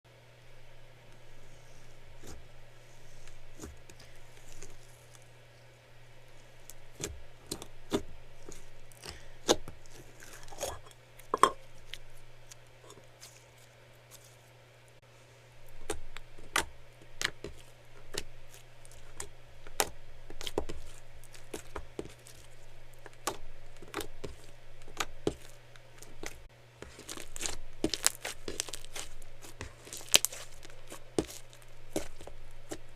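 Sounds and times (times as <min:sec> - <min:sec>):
steady low hum: 0:00.1 - 0:32.9
slime squishing and crackling: 0:02.2 - 0:05.3, 0:06.2 - 0:14.4, 0:15.6 - 0:32.9.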